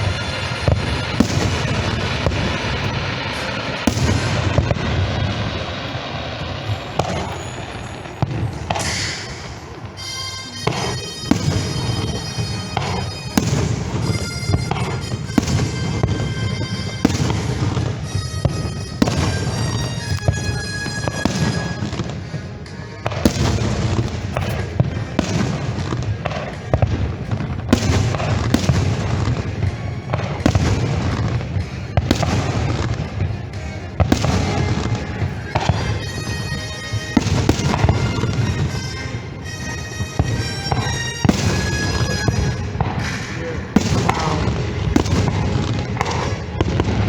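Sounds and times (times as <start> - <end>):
fireworks bursting: 0.0 - 47.0
show music: 0.0 - 47.0.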